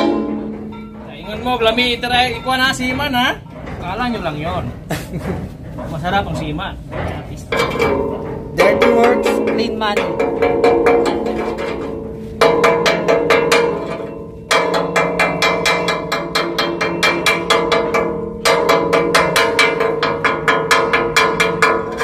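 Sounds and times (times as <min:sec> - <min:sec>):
hammer rapping on steel: 0:00.0 - 0:04.4, 0:05.9 - 0:22.0.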